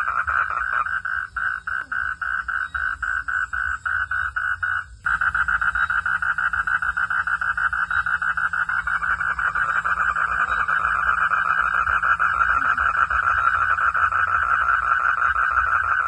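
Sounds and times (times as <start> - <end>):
frog calling in pulses: 0.0 - 16.0.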